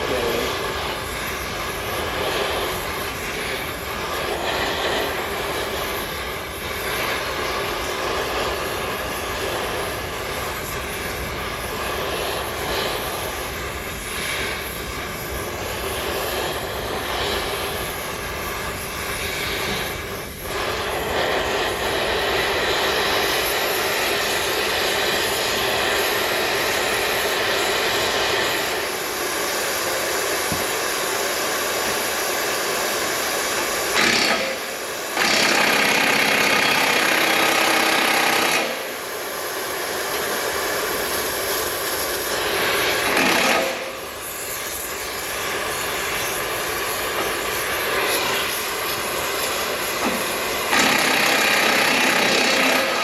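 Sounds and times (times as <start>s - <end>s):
cutting torch hissing roar: 0.0s - 53.0s.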